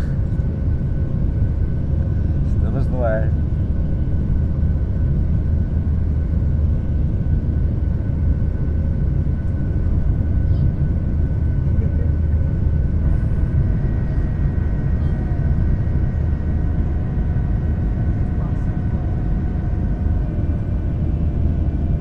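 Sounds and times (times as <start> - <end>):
aircraft engine rumble: 0.0 - 22.0
thin steady whine: 0.0 - 22.0.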